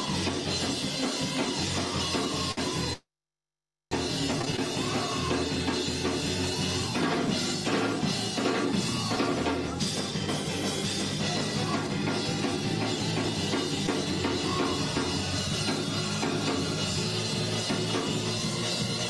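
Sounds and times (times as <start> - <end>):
worship music with drum kit: 0.0 - 3.0, 3.9 - 19.0.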